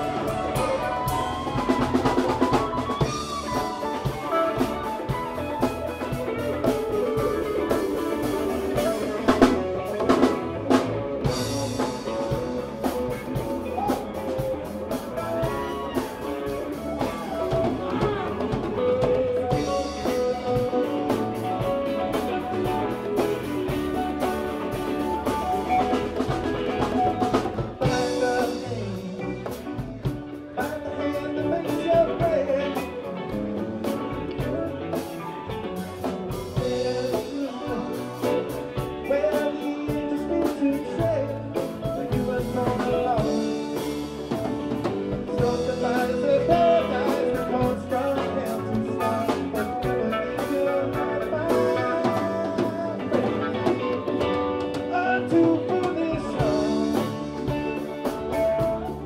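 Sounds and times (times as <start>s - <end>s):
bass: 0.0s - 59.0s
congas: 0.0s - 59.0s
drum kit: 0.0s - 59.0s
electric guitars: 0.0s - 59.0s.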